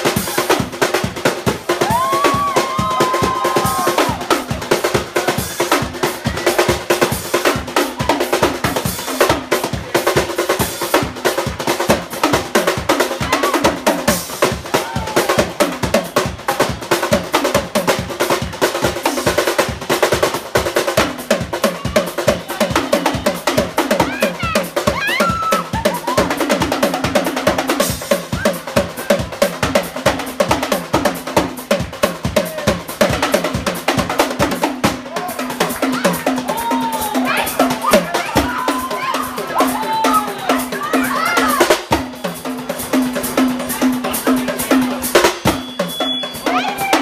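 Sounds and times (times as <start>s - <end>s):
drum kit solo: 0.0s - 47.0s.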